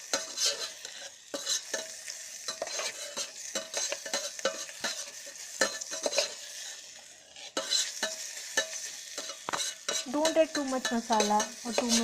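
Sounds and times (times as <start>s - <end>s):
spoon scraping and tapping pot: 0.0s - 6.8s, 7.4s - 12.0s
spices sizzling in hot oil: 0.0s - 12.0s.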